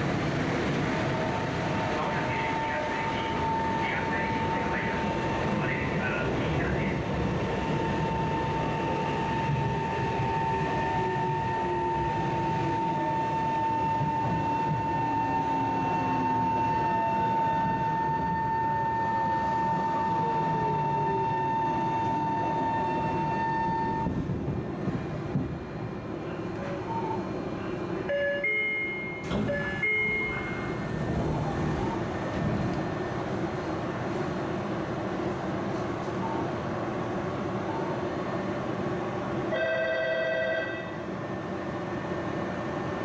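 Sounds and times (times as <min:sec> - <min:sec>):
wheel and rail rumble: 0:00.0 - 0:43.0.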